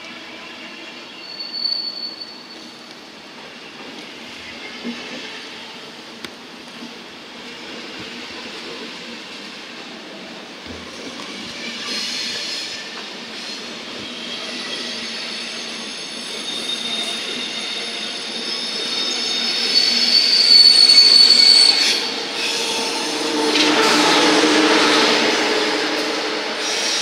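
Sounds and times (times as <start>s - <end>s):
train wheels squealing: 0.4s - 5.9s, 10.8s - 27.0s.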